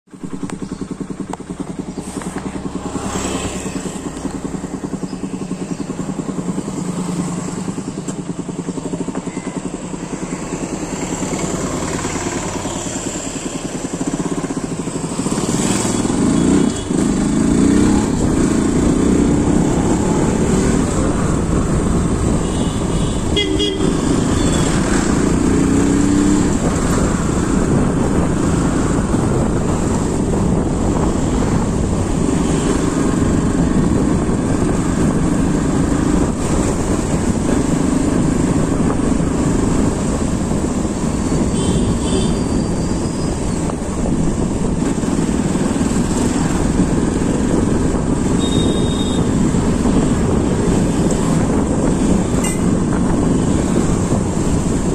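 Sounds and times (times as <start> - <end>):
motor vehicle engine running: 0.1 - 54.9.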